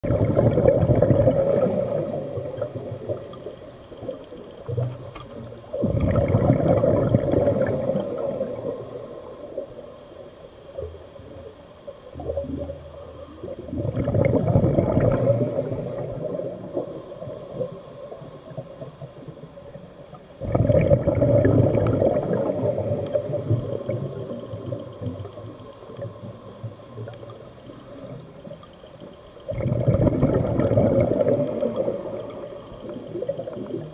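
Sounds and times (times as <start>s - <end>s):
underwater bubbles gurgling: 0.0s - 33.9s.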